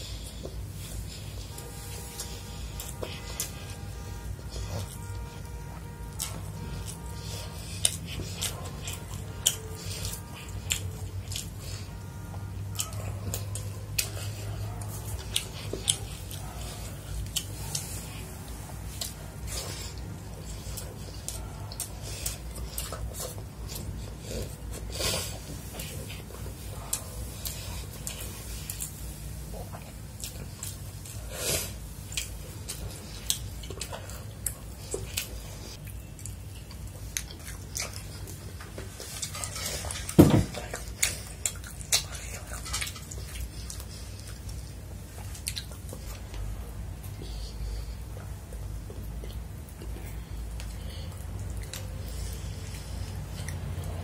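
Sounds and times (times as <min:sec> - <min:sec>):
chewing with wet smacks: 0:00.0 - 0:54.0
low steady hum: 0:00.0 - 0:54.0.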